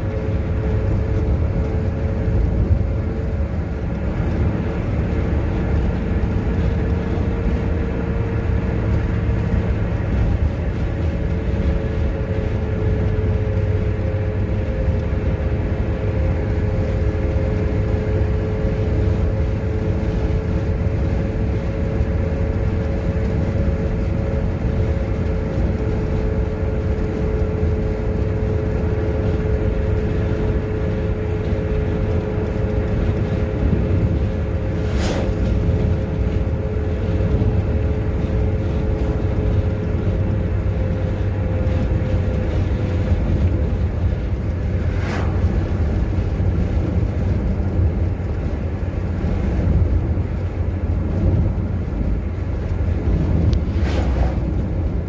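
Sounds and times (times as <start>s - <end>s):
car cabin engine and road noise: 0.0s - 55.0s.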